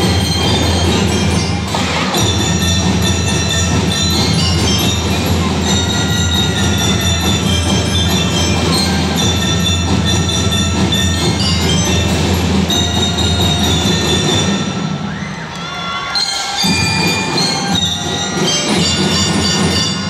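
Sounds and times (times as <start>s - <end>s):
mallet-struck bells ringing: 0.0s - 15.1s, 16.1s - 20.0s
steady drumming: 0.0s - 15.6s, 16.2s - 20.0s
marching band playing: 0.0s - 20.0s.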